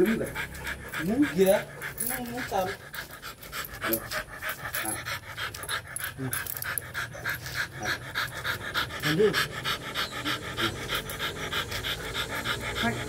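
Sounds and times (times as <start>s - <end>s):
dog panting hard: 0.0s - 13.0s.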